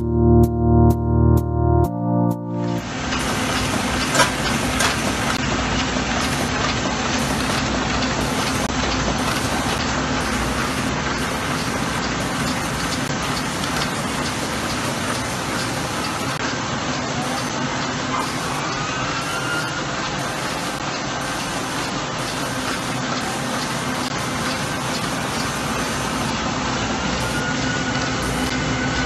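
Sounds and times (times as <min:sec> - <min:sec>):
printing press running: 0:02.8 - 0:29.0.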